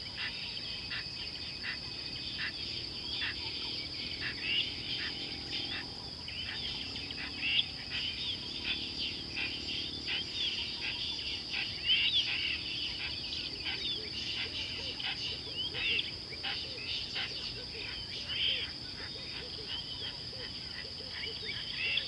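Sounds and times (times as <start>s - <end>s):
bird chirps and calls: 0.0s - 22.0s
high insect chorus: 0.0s - 22.0s.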